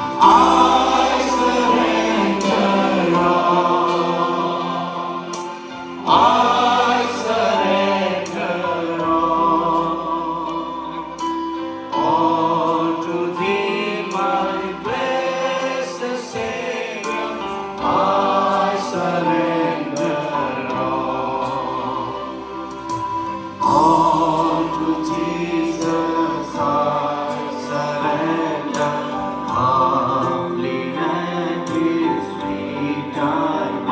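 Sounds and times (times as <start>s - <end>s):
choir singing a hymn: 0.0s - 33.9s.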